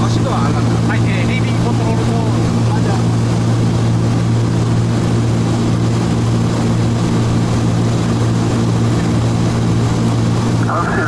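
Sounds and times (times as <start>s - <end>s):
aircraft engines and propellers droning: 0.0s - 11.0s.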